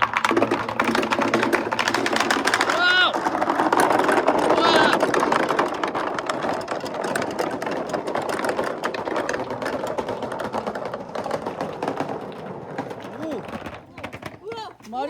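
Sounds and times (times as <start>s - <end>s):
marbles rattling through pipe: 0.0s - 15.0s.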